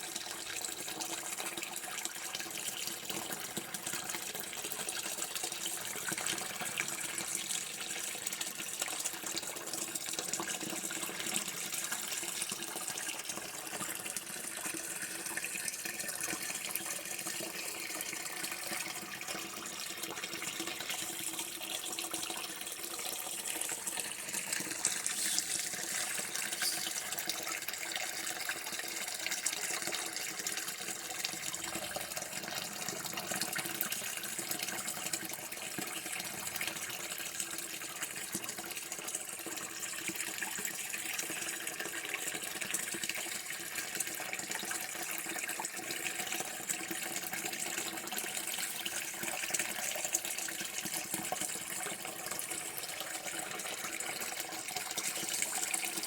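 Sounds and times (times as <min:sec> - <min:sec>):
running water pouring: 0:00.0 - 0:37.4, 0:45.6 - 0:56.0.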